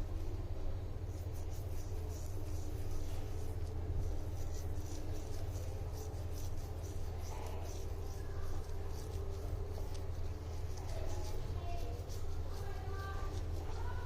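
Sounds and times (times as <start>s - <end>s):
steady low hum: 0.0s - 14.0s
hand scrubbing salt onto leaf: 1.1s - 14.0s.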